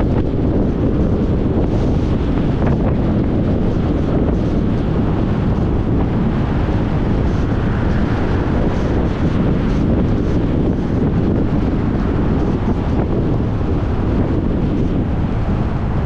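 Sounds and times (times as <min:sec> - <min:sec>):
tyres rumbling on road: 0:00.0 - 0:16.0
wind noise on microphone: 0:00.0 - 0:16.0.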